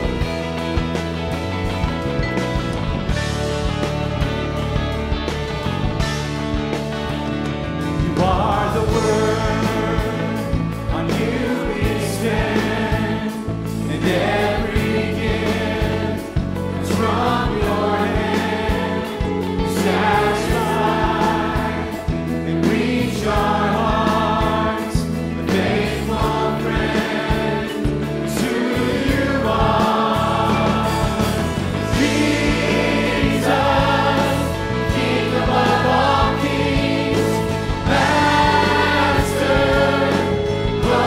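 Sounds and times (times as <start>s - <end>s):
choir singing gospel: 0.0s - 2.2s, 2.8s - 41.0s
band with piano and drums: 0.0s - 41.0s.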